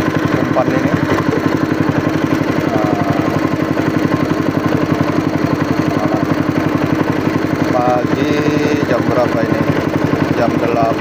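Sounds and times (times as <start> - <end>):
small boat engine chugging: 0.0 - 11.0.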